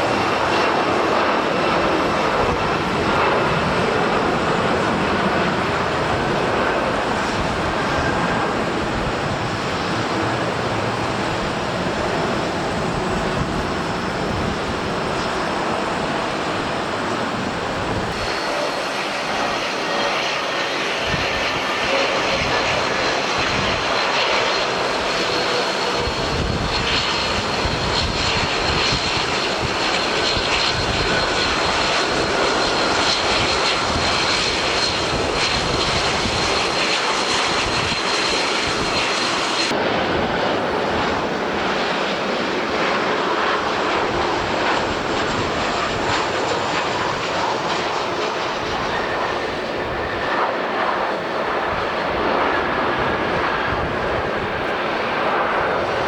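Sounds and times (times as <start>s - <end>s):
gusty wind: 0.0s - 56.0s
high jet engine whine: 0.0s - 56.0s
jet engines roaring: 0.0s - 56.0s.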